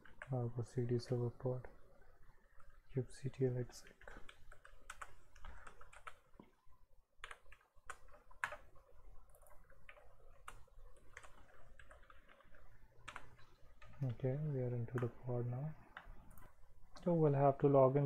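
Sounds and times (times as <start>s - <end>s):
keyboard typing: 0.0s - 6.6s, 7.2s - 17.1s.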